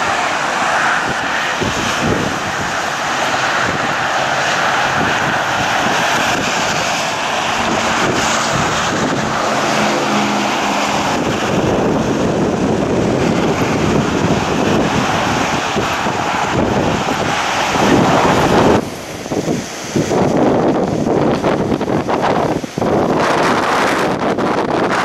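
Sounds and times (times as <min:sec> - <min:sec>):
engine hum: 0:00.0 - 0:25.0
highway traffic noise: 0:00.0 - 0:25.0
loud storm wind: 0:00.0 - 0:25.0.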